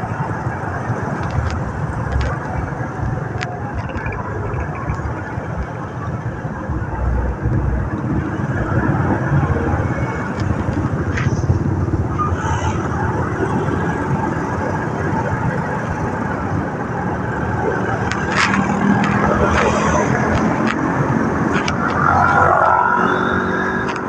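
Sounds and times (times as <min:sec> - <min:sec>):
surrounding traffic engines: 0:00.0 - 0:24.0
wind noise: 0:00.0 - 0:24.0.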